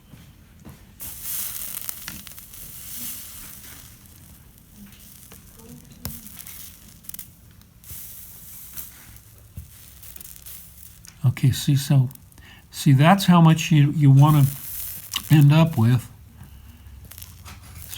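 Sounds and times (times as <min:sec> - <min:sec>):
flux sizzling under soldering iron: 0:00.9 - 0:17.9.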